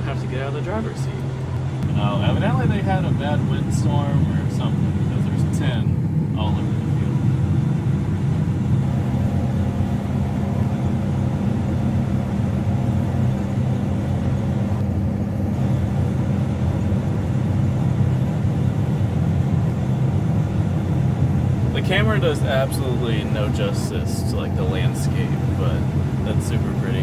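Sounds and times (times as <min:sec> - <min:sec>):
combine harvester engine drone: 0:00.0 - 0:27.0.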